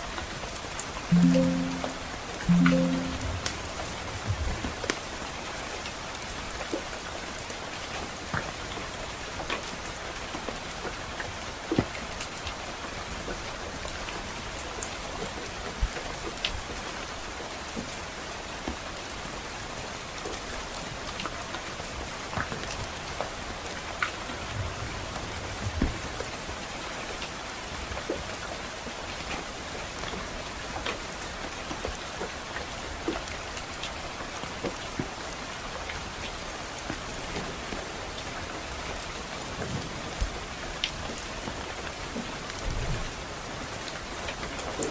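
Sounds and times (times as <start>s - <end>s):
steady rain hiss: 5.0s - 44.9s.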